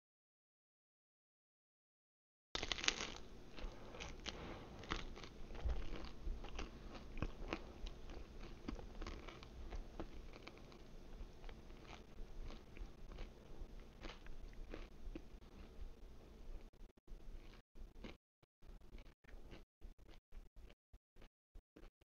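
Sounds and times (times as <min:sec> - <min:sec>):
person chewing pizza: 0:02.6 - 0:22.0.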